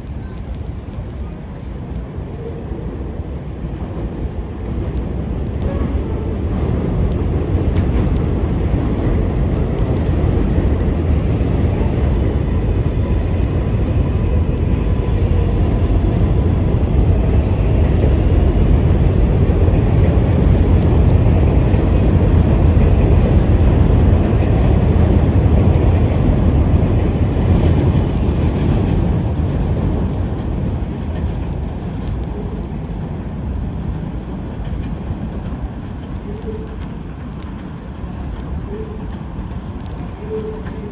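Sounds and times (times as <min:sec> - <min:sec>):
subway train rumbling on track: 0:00.0 - 0:40.9.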